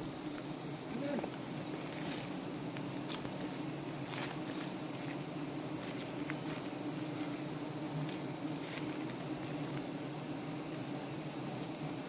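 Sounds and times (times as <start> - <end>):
bees buzzing: 0.0 - 12.0
high-pitched insect call: 0.0 - 12.0.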